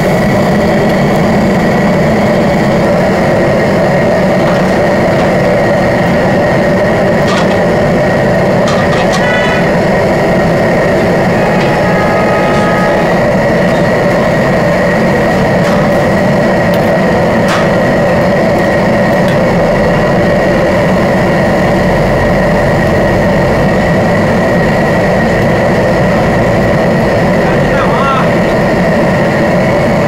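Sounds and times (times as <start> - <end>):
faint steady whine: 0.0 - 30.0
gas burner rushing: 0.0 - 30.0
water boiling hard: 0.0 - 30.0.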